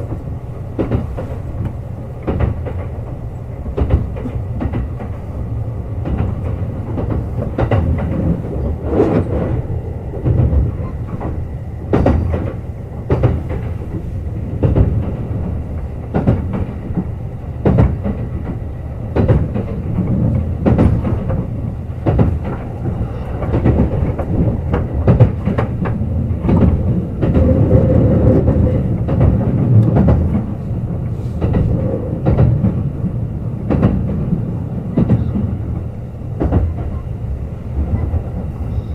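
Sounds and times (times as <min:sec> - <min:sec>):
train low rumble: 0:00.0 - 0:38.9
wheels clicking over rail joints: 0:00.0 - 0:38.9.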